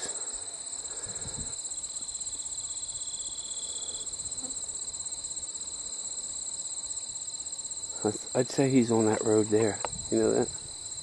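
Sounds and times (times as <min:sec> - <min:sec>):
high-pitched insect trill: 0:00.0 - 0:11.0
lower insect trill: 0:00.0 - 0:11.0.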